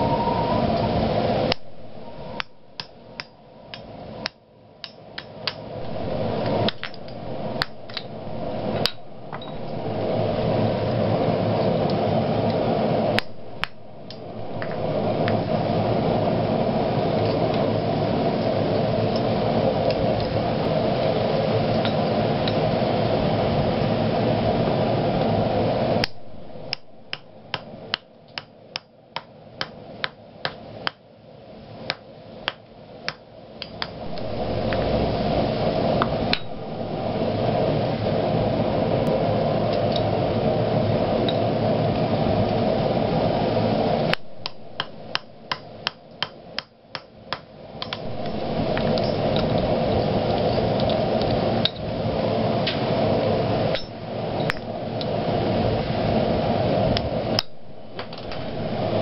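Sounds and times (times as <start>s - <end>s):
loud rushing noise: 0.0s - 4.2s, 5.4s - 27.9s, 33.9s - 46.5s, 47.6s - 59.0s.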